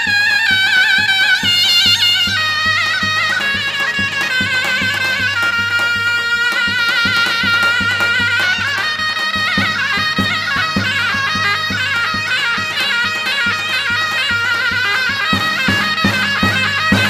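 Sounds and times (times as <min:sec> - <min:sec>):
wind instrument melody: 0:00.0 - 0:17.0
steady drum beat: 0:00.9 - 0:17.0.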